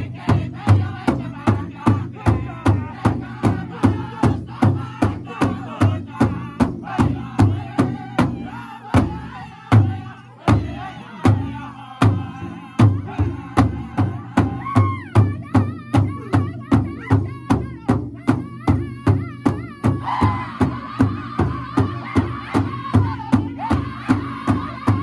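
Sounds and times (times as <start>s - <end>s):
group singing in unison: 0.0s - 25.0s
large drum beating: 0.0s - 25.0s.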